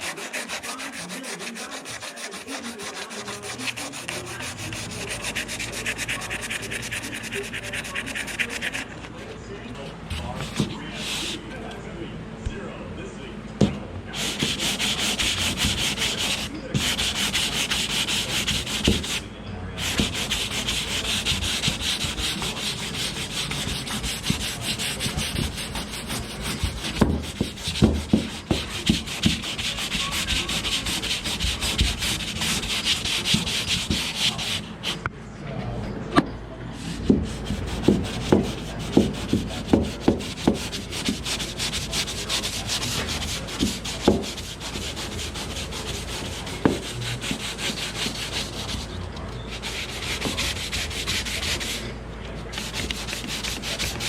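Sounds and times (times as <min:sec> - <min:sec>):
sanding rubbing: 0:00.0 - 0:09.2, 0:10.1 - 0:11.4, 0:14.1 - 0:19.2, 0:19.8 - 0:35.0, 0:36.8 - 0:51.9, 0:52.5 - 0:54.0.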